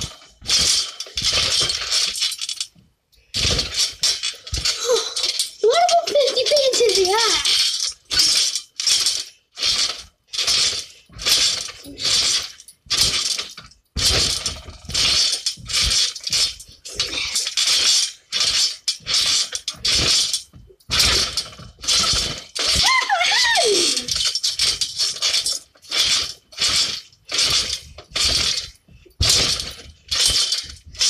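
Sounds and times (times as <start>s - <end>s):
trampoline springs jangling and creaking: 0.0s - 31.0s.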